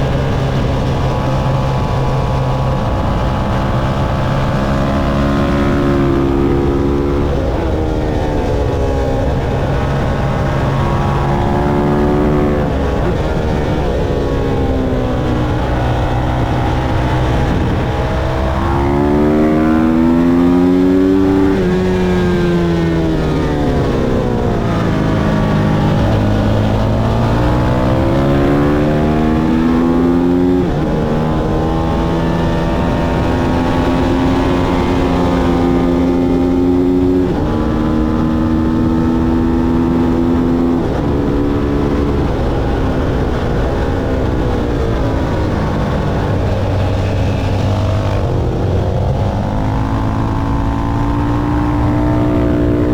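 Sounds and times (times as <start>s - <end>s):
racing motorcycle engine: 0.0s - 52.9s.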